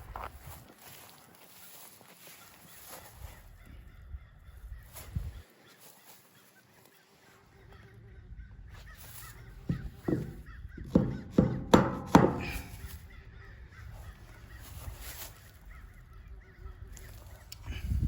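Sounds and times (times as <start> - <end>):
bird harsh calls: 2.2 - 18.0.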